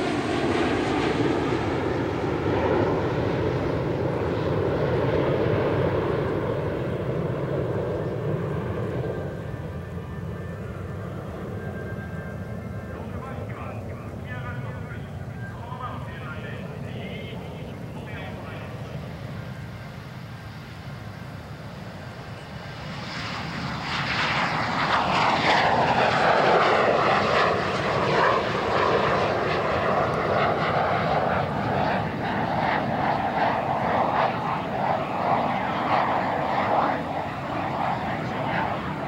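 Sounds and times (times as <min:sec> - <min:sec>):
jets taking off: 0:00.0 - 0:39.0.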